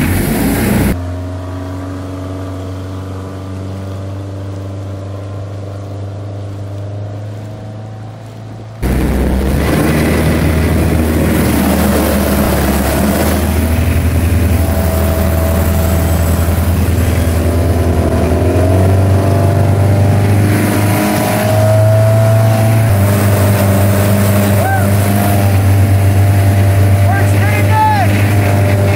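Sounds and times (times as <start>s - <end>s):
boat engine hum: 0.0s - 28.9s
rushing wake water: 0.0s - 28.9s
wind: 0.0s - 28.9s.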